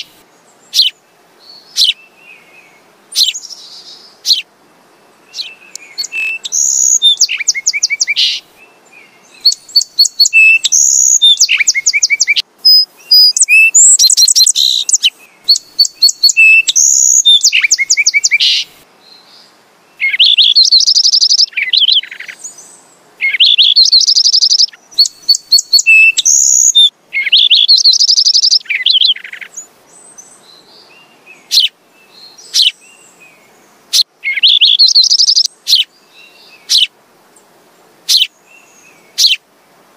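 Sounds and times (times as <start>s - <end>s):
sparrows chirping: 0.0s - 4.5s, 5.2s - 36.9s, 38.1s - 39.4s.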